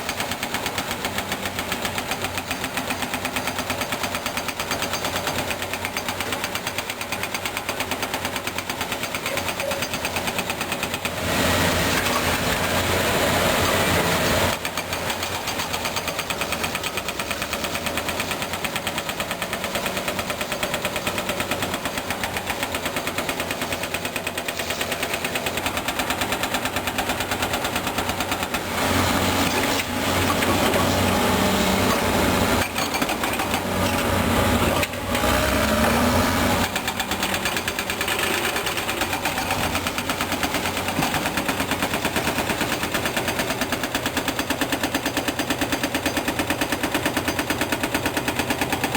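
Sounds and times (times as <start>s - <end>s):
bulldozer clattering: 0.0s - 48.9s.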